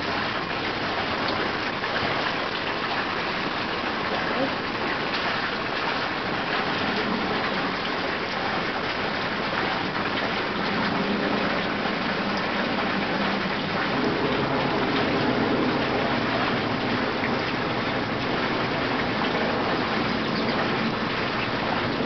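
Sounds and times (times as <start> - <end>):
falling water: 0.0 - 22.0.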